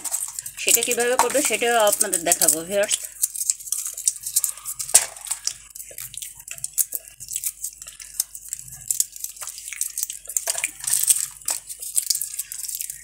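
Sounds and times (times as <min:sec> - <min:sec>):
dry seed skins crackling: 0:00.0 - 0:13.0.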